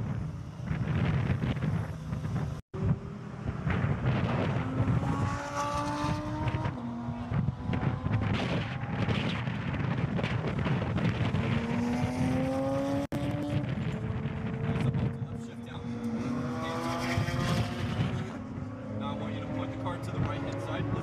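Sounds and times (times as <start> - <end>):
race car engine accelerating: 0.6 - 21.0.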